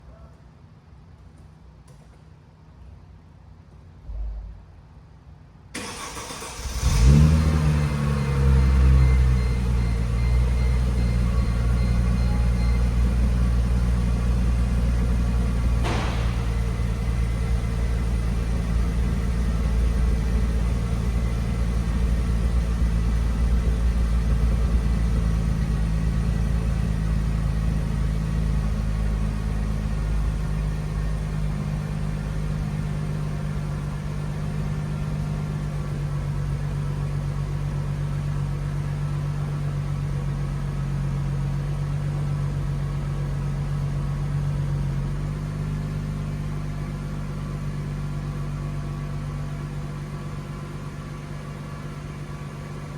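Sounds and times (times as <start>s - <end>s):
car engine idling: 5.8s - 52.9s.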